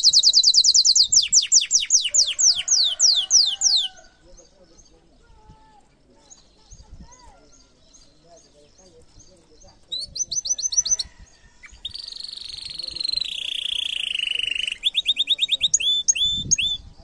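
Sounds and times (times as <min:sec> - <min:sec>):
canary singing: 0:00.0 - 0:05.2, 0:05.8 - 0:17.0.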